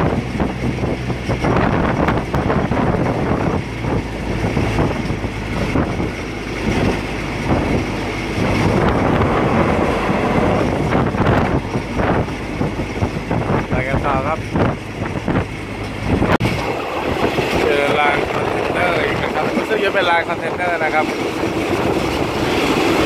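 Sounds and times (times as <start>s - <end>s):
diesel engine drone: 0.0s - 23.0s
train wheels on rails: 0.0s - 23.0s
wind noise: 0.0s - 23.0s.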